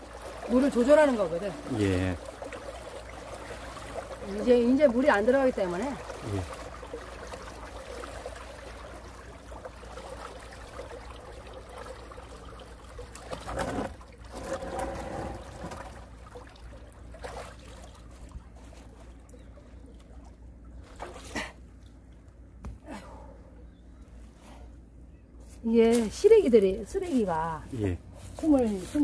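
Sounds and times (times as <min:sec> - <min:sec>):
water trickling in a ditch: 0:00.0 - 0:22.6, 0:25.6 - 0:29.0
person moving in water: 0:00.0 - 0:26.4.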